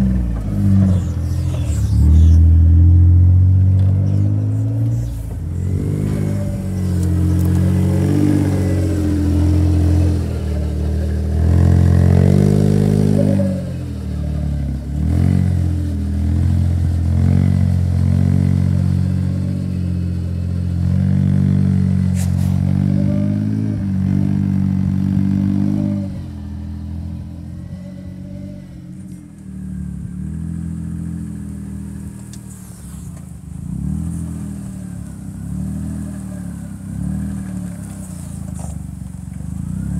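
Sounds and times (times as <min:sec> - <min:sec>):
utility vehicle engine revving: 0:00.0 - 0:39.9.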